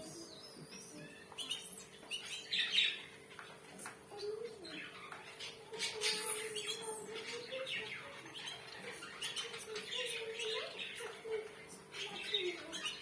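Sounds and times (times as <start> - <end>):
finches calling and chirping: 0.0 - 13.0.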